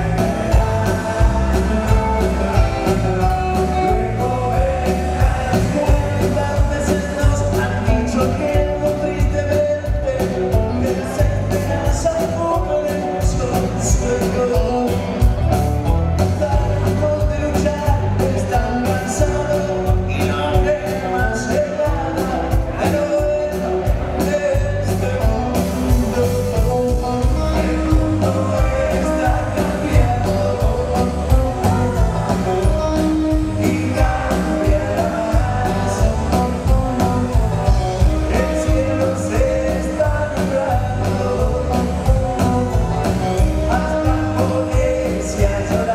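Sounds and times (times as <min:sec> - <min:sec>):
lead vocal singing: 0:00.0 - 0:15.4, 0:16.2 - 0:45.9
live band music: 0:00.0 - 0:45.9.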